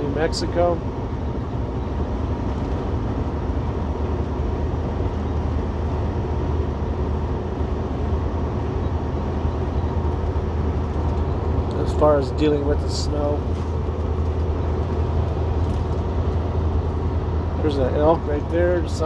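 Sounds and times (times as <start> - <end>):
diesel engine drone: 0.0 - 19.0
tyre and road noise: 0.0 - 19.0.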